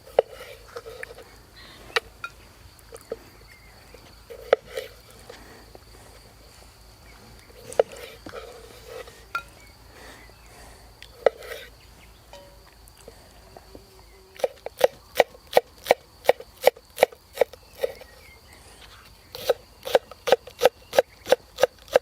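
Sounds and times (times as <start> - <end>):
high insect chirr: 0.0 - 22.0.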